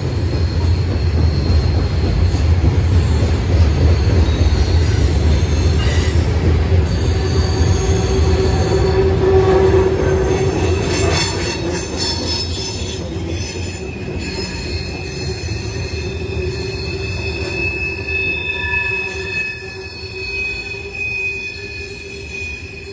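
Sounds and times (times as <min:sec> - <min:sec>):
heavy low train rumble: 0:00.0 - 0:22.9
train wheels squealing on rails: 0:00.0 - 0:22.9.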